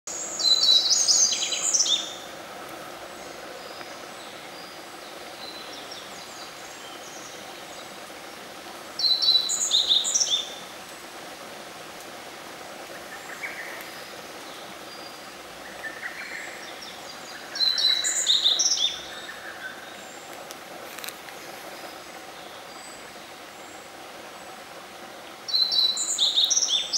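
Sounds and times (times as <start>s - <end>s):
background hiss: 0.1s - 26.9s.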